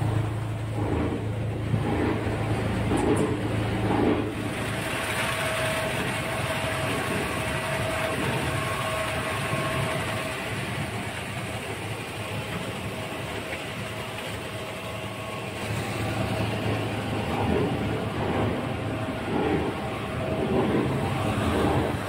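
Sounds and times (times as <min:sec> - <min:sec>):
faint steady whine: 0:00.0 - 0:22.0
machine motors and paddles churning: 0:00.0 - 0:22.0.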